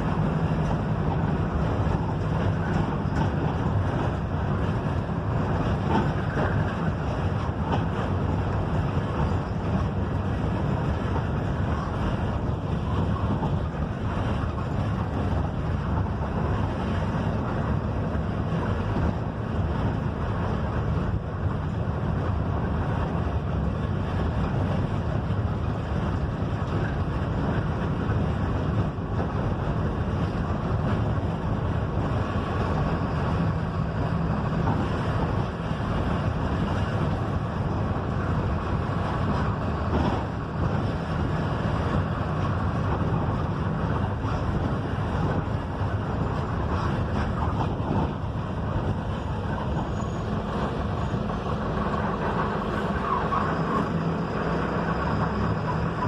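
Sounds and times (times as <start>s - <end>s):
bus engine drone: 0.0s - 56.0s
tyre and road noise: 0.0s - 56.0s.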